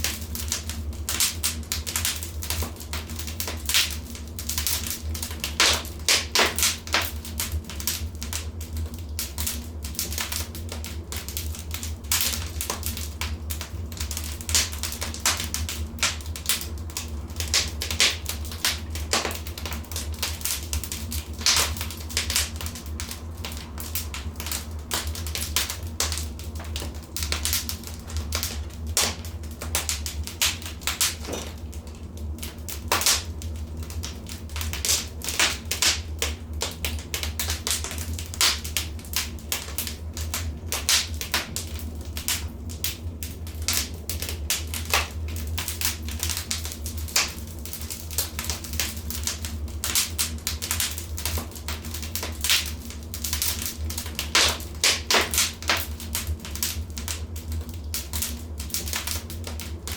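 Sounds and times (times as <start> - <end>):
steady low rumble: 0.0 - 59.9
wood fire crackling and popping: 0.0 - 59.9.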